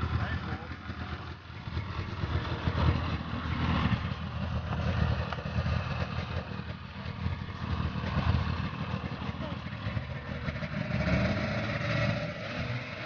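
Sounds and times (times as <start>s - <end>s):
road noise: 0.0s - 13.0s
vehicle engine droning: 0.0s - 13.0s.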